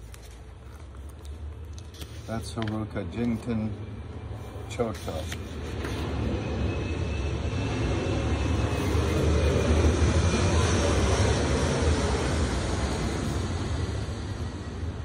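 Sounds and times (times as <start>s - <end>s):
aircraft rumble: 0.0s - 15.0s.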